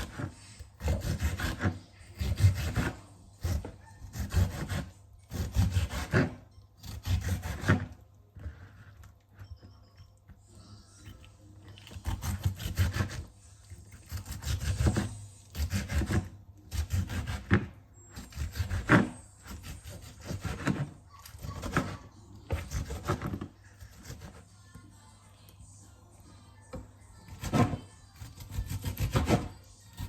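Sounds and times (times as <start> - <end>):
vegetables rasping on a grater: 0.0 - 9.4, 11.9 - 24.5, 27.3 - 30.0.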